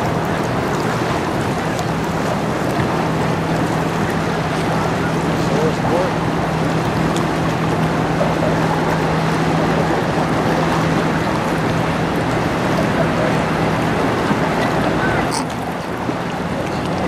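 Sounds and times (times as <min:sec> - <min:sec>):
bow wave rushing along hull: 0:00.0 - 0:17.0
low hum of ship: 0:00.0 - 0:17.0.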